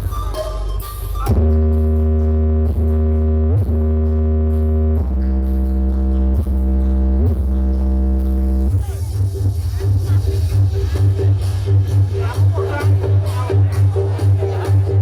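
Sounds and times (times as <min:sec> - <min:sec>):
electronic music with synth notes: 0:00.0 - 0:15.0
heavy bass: 0:00.0 - 0:15.0.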